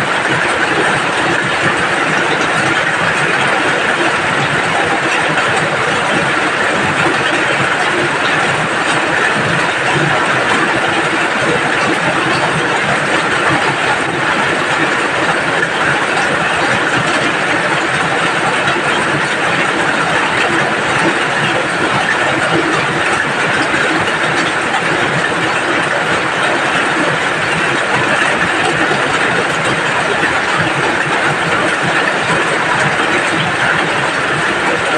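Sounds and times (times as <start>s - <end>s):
heavy rain: 0.0s - 34.9s.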